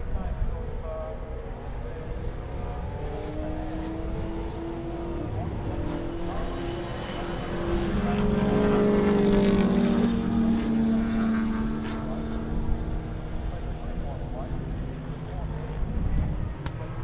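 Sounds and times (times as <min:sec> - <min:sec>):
race cars passing at speed: 0:00.4 - 0:17.0.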